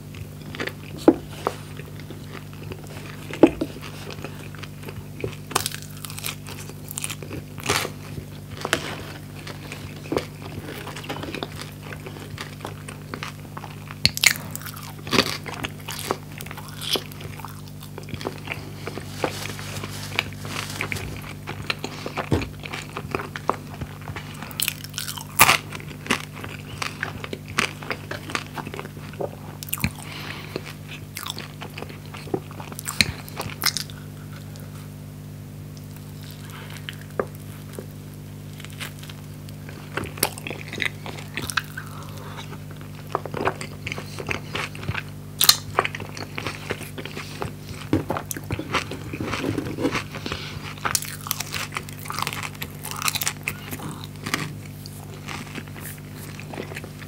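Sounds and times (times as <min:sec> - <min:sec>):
person chewing food: 0:00.0 - 0:57.0
crisp crunches: 0:00.2 - 0:34.6, 0:35.7 - 0:57.0.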